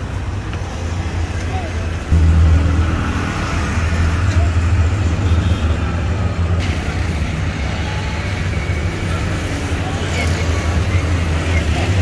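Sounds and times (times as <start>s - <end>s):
street noise: 0.0s - 12.0s
vehicle engine rumbling: 0.0s - 12.0s.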